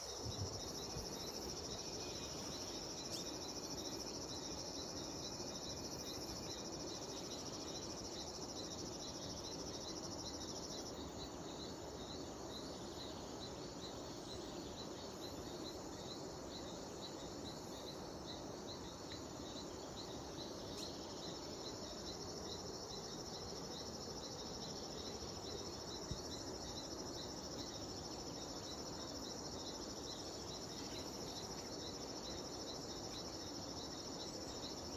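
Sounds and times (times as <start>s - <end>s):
cicadas droning: 0.0s - 34.9s
faint background hiss: 0.0s - 34.9s
insect chirps: 0.0s - 34.9s.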